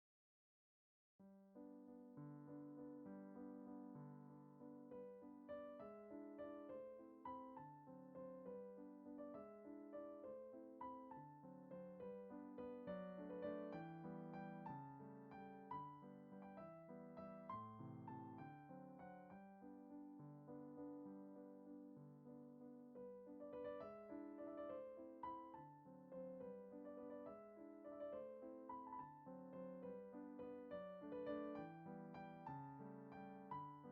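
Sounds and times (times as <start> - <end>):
soft piano melody: 1.2 - 33.9.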